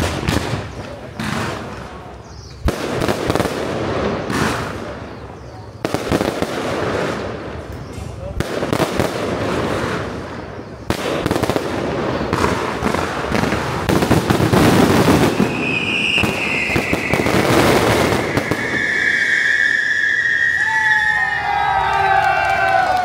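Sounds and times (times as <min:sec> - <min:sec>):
fireworks and firecrackers crackling: 0:00.0 - 0:23.0.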